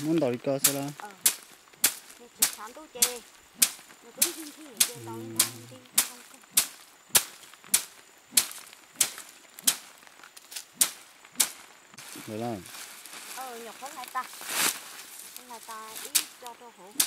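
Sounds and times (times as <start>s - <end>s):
stick beating dried stalks: 0.0s - 17.0s.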